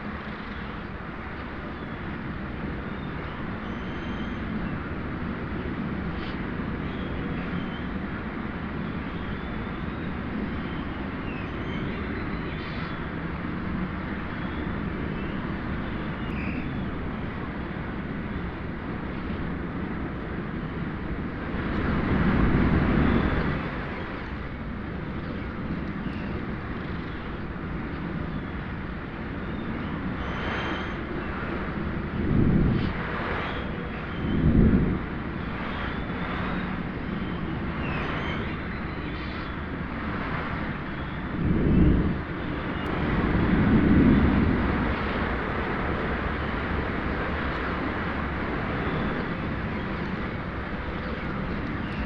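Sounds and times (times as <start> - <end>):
steady outdoor rumble: 0.0 - 52.0.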